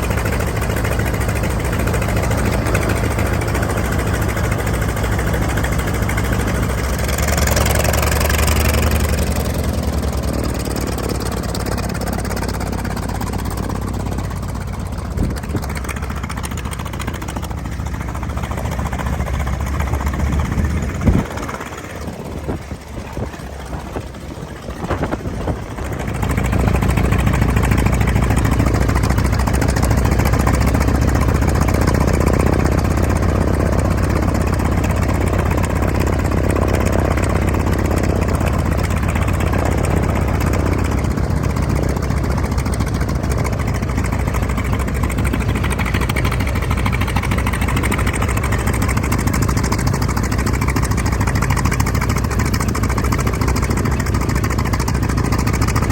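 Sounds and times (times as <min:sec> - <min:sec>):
light aircraft engine: 0:00.0 - 0:55.9.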